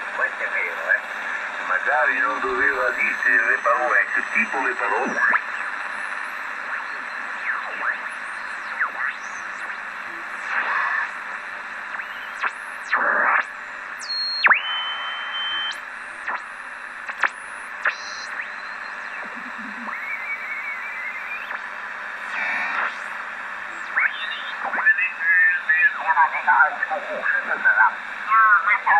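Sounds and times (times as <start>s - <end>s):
bursts of radio static: 0.0s - 28.9s
radio receiver hiss: 0.0s - 28.9s.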